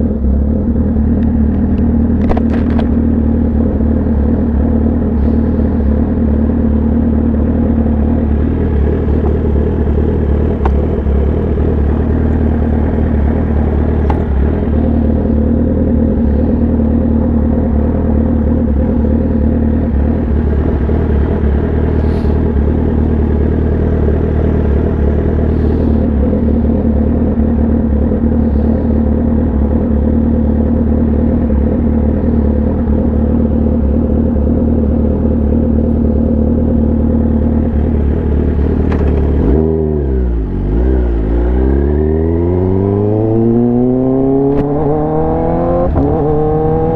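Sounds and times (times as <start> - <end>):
motorcycle engine running steadily: 0.0 - 46.9.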